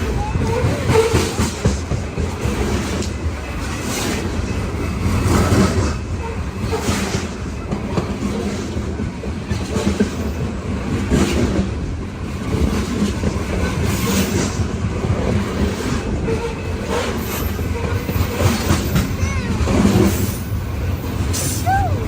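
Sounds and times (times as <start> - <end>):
wheels clacking over rail joints: 0.0 - 21.6
freight train rumbling: 0.0 - 22.0.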